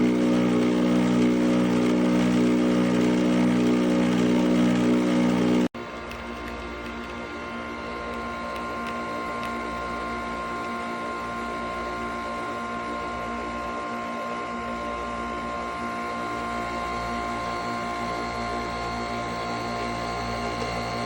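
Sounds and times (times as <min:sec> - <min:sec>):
coffee machine motor humming: 0:00.0 - 0:21.0.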